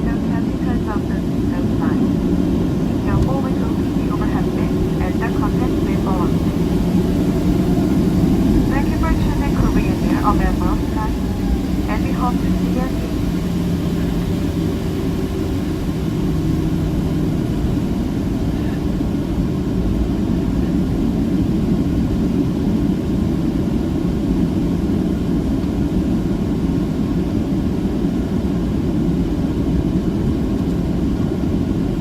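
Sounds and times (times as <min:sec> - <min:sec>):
jet airliner cabin rumble: 0:00.0 - 0:32.0.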